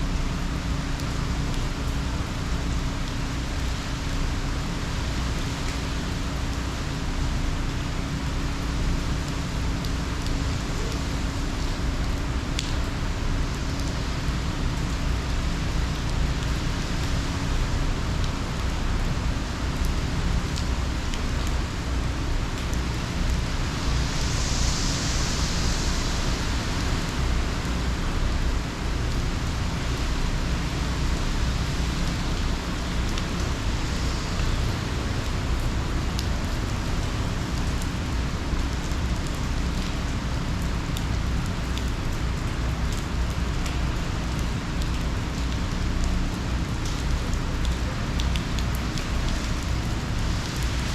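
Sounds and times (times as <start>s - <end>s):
heavy rain and wind: 0.0s - 50.9s.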